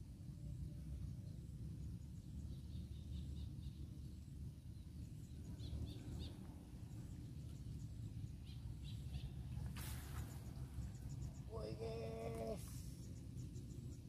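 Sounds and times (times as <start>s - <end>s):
steady low rumble: 0.0s - 14.0s
small birds chirping: 0.5s - 14.0s.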